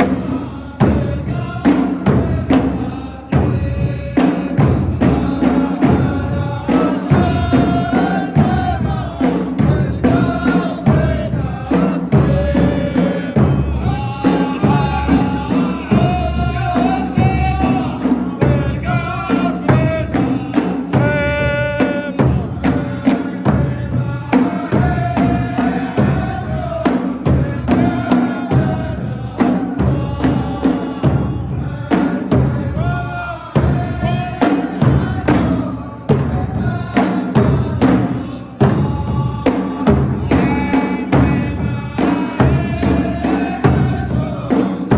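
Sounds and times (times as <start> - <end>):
drums beating: 0.0 - 44.9
group singing long notes: 0.0 - 44.9.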